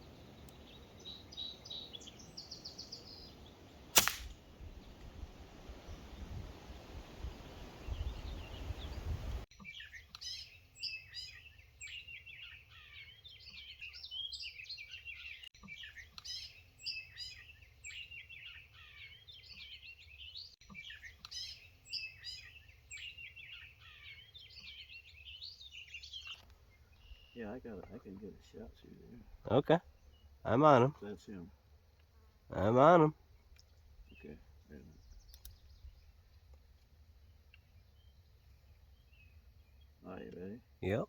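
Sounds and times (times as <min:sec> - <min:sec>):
songbirds chirping and singing: 0:00.0 - 0:03.9, 0:05.8 - 0:31.4, 0:32.5 - 0:36.6, 0:37.2 - 0:41.0.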